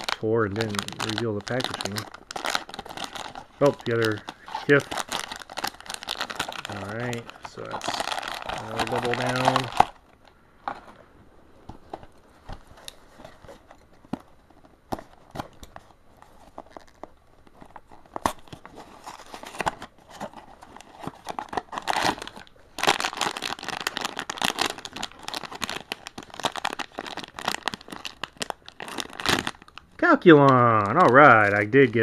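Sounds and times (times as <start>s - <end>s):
wrapper crinkling: 0.0s - 32.0s.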